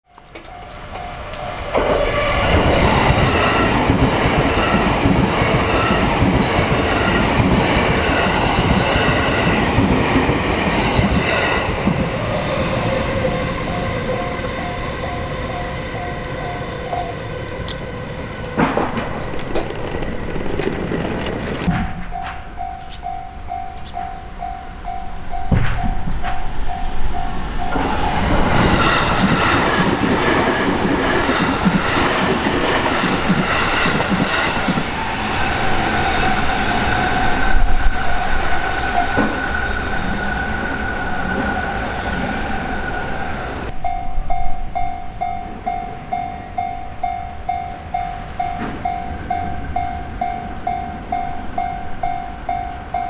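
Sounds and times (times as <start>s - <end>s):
crossing warning bell ringing: 0.0s - 53.0s
train steady whine: 0.0s - 53.0s
train wheels rushing on rails: 0.0s - 53.0s.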